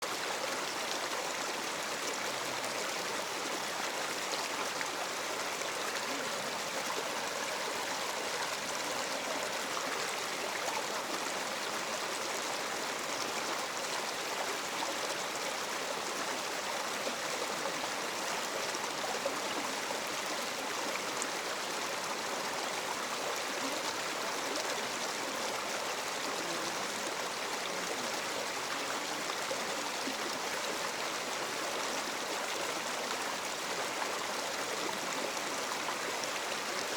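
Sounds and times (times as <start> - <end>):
stream water over rocks: 0.0 - 36.9.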